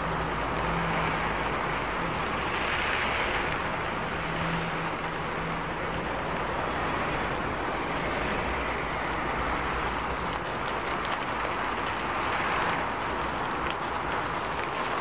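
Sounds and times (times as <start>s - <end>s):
heavy rain on street: 0.0s - 15.0s
low traffic rumble: 0.0s - 15.0s.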